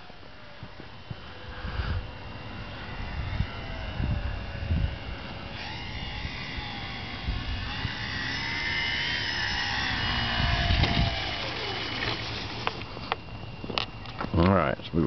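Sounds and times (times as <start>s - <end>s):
model airplane motor whining: 0.0s - 14.4s.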